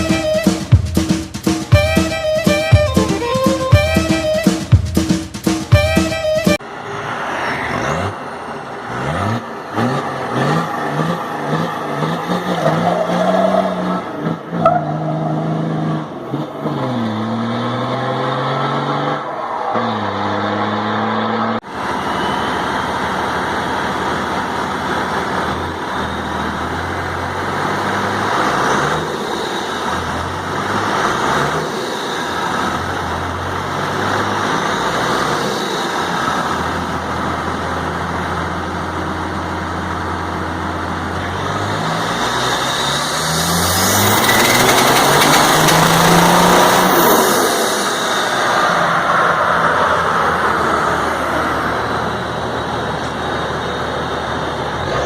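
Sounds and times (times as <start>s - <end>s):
diesel engine running hard: 6.6s - 19.2s, 19.8s - 55.0s.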